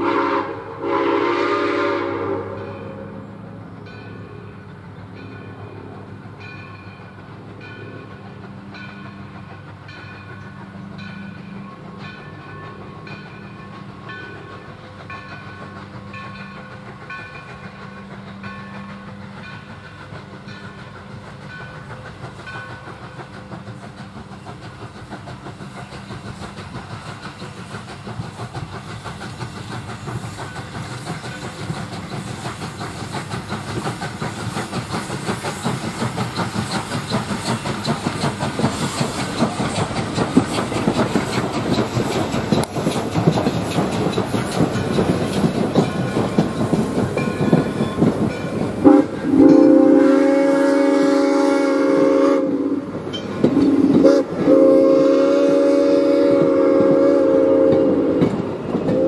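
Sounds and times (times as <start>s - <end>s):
steam train passing: 0.0s - 59.0s
wheels clicking over rail joints: 3.8s - 49.8s, 52.9s - 54.5s, 57.6s - 59.0s.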